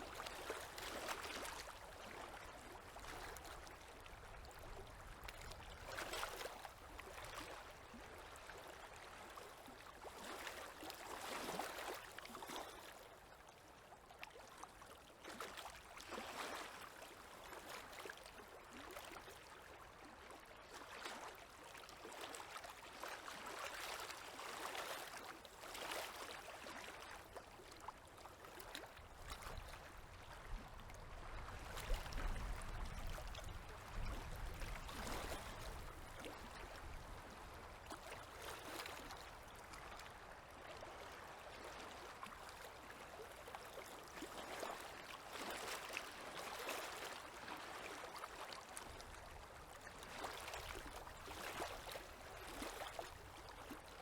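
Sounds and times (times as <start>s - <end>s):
small waves lapping: 0.0s - 54.0s.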